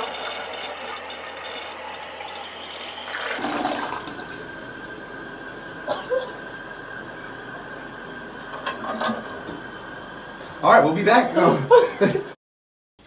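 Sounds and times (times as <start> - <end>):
toilet tank refilling hiss: 0.0 - 12.1
toilet flushing: 0.0 - 12.3.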